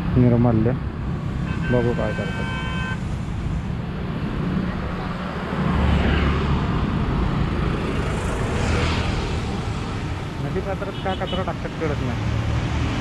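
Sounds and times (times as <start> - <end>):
low traffic rumble: 0.0 - 13.0
motorcycles passing: 0.0 - 13.0.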